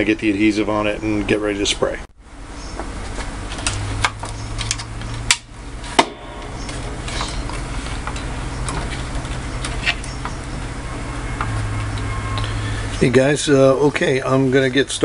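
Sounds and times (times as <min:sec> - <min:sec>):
low hum: 0:00.7 - 0:14.6.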